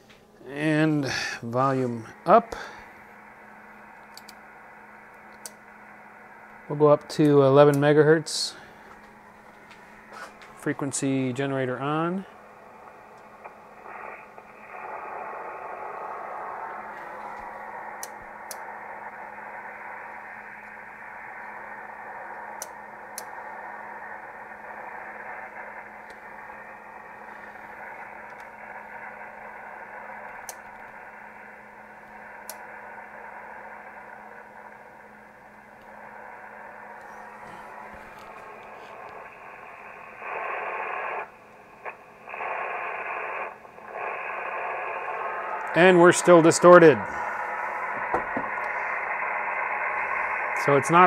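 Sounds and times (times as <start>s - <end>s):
low hum: 0.0s - 51.0s
radio receiver rough hiss: 0.0s - 51.0s.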